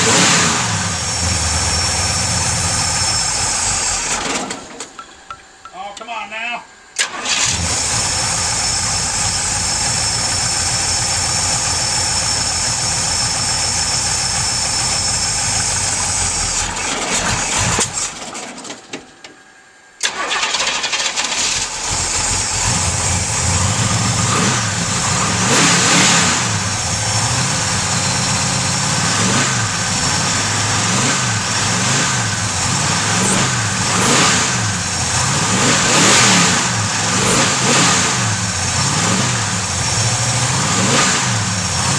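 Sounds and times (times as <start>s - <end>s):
car engine cold starting and revving: 0.0s - 5.6s, 6.8s - 18.9s, 19.6s - 41.9s.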